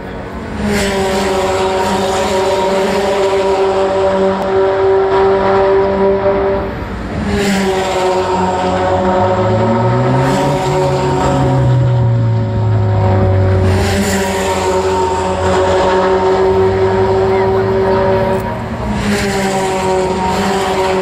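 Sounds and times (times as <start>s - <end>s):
car accelerating: 0.0s - 21.0s
race car engines at high revs: 0.0s - 21.0s.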